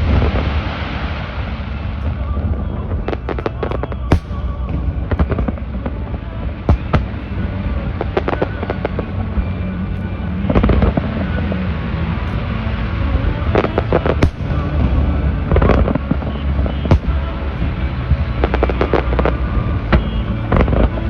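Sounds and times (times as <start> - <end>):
firework bangs: 0.0 - 21.0
firework crackling: 0.0 - 21.0
low rumble: 0.0 - 21.0.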